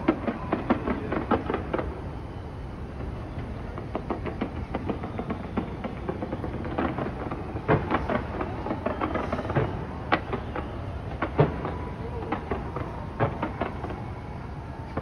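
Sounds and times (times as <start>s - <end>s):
fireworks bangs and crackles: 0.0s - 15.0s
fireworks rumble: 0.0s - 15.0s.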